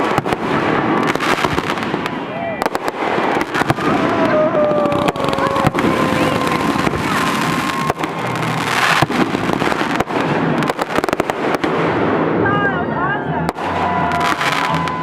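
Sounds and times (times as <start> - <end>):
fireworks whistling: 0.0 - 12.4, 13.4 - 15.0
fireworks bangs and crackling: 0.0 - 12.6, 13.4 - 15.0.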